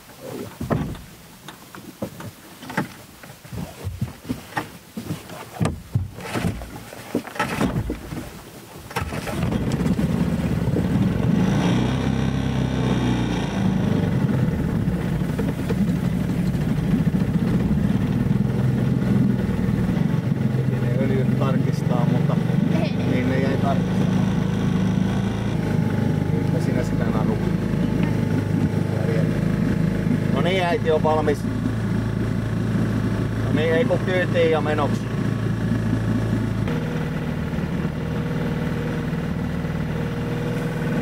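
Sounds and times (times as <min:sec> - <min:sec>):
outboard motor idling: 0:00.0 - 0:41.0
outboard motor knocking and clunking: 0:00.0 - 0:41.0.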